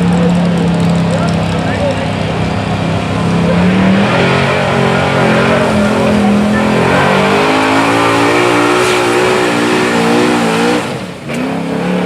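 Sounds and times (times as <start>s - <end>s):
truck engine straining at full throttle: 0.0s - 12.0s.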